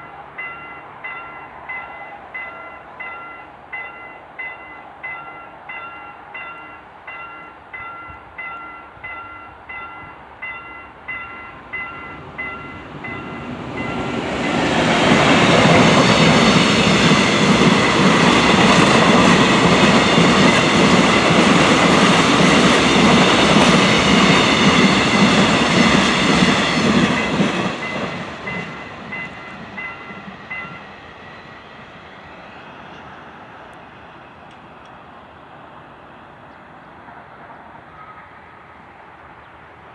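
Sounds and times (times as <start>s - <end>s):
freight train passing: 0.0s - 39.9s.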